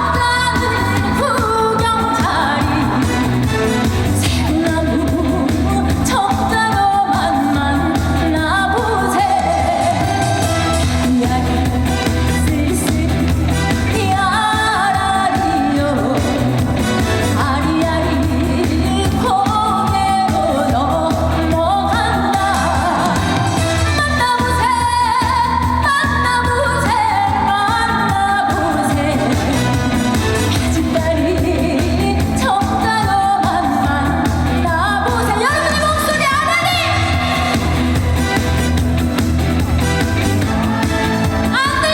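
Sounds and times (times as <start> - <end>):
woman singing: 0.0 - 38.4, 40.4 - 41.9
amplified band accompaniment: 0.0 - 41.9.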